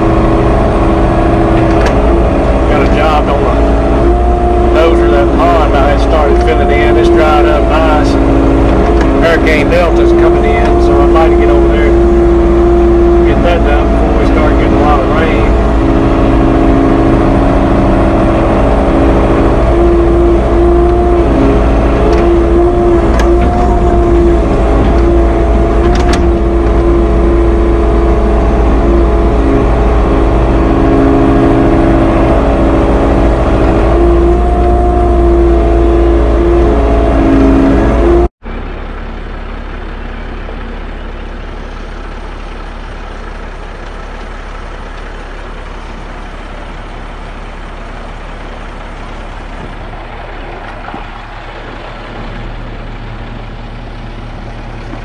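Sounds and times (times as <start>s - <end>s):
dump truck engine running: 0.0s - 55.0s
excavator engine and hydraulics: 0.0s - 55.0s
hydraulic whine: 0.0s - 55.0s.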